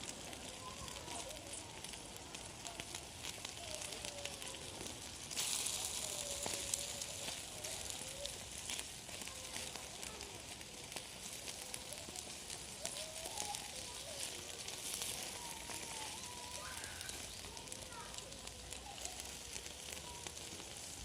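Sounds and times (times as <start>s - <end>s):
cooking fire crackling: 0.0s - 21.0s
steady sizzling hiss: 0.0s - 21.0s.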